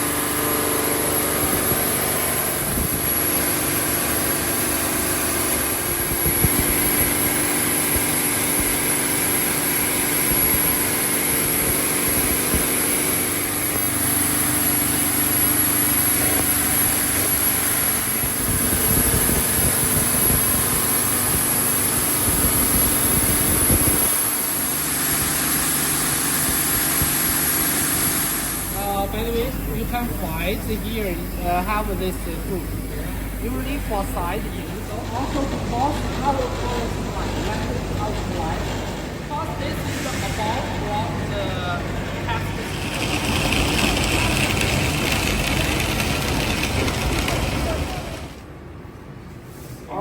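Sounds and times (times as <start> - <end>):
fire pump drone and whine: 0.0 - 50.0.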